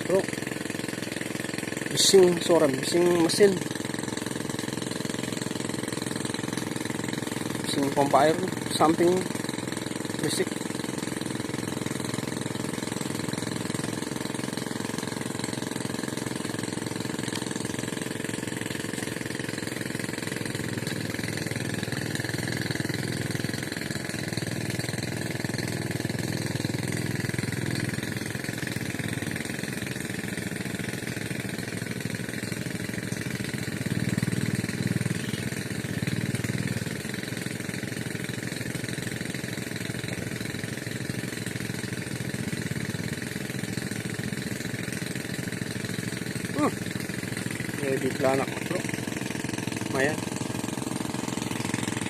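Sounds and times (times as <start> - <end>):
water pump engine drone: 0.0 - 52.0.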